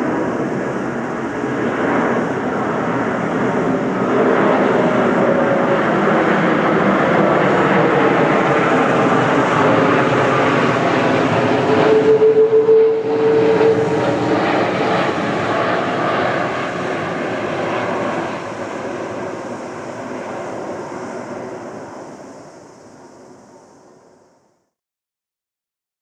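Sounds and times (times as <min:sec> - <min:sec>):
jet airliner passing overhead: 0:00.0 - 0:24.7.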